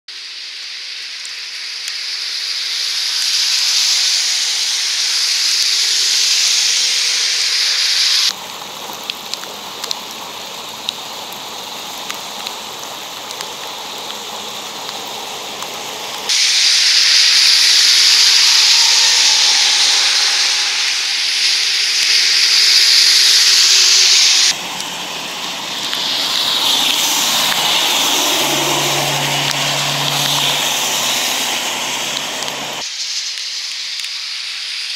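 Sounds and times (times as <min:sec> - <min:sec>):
heavy rain hissing: 0:00.1 - 0:34.9
tyres spraying on wet road: 0:00.1 - 0:34.9
water gushing from manhole: 0:00.2 - 0:34.9.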